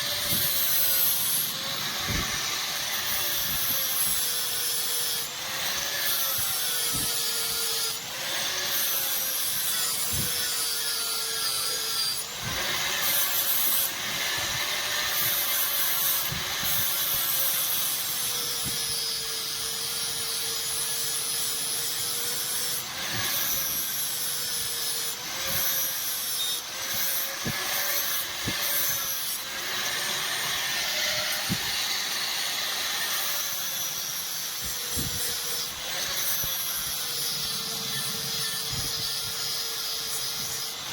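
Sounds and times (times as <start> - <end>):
electric grinder on steel: 0.0 - 40.9.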